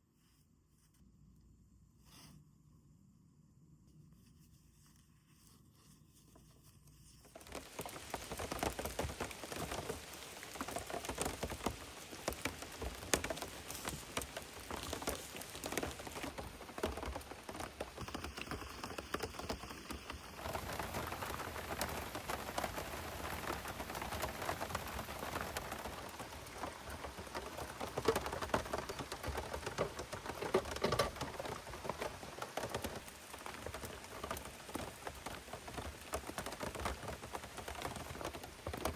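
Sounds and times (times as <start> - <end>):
rain spattering on a surface: 7.3 - 38.9.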